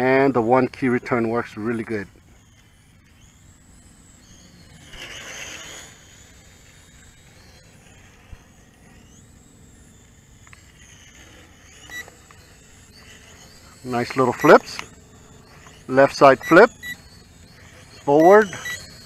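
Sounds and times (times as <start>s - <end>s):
quadcopter propellers whining: 0.0s - 19.0s.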